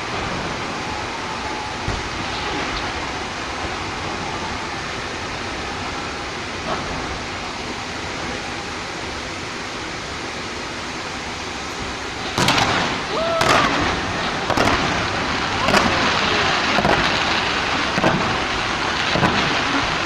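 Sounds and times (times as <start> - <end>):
firework bang: 0.0 - 9.6, 10.8 - 20.0
crowd voices roaring: 0.0 - 20.0.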